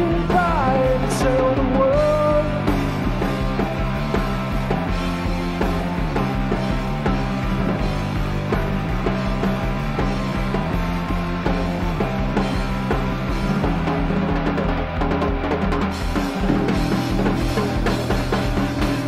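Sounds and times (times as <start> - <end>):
drum kit beat: 0.0 - 19.0
electric bass: 0.0 - 19.0
electric guitar: 0.0 - 19.0.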